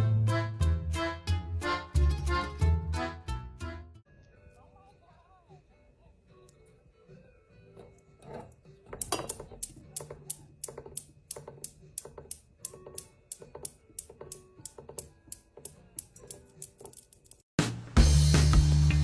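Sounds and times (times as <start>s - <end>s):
faint background music: 0.0s - 17.9s.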